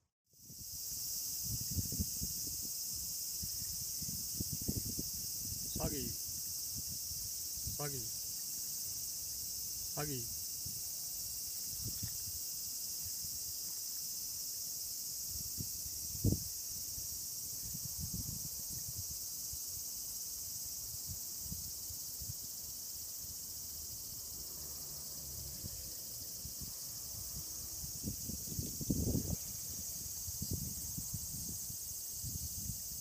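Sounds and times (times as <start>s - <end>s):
high-pitched insect chorus: 0.3s - 33.0s.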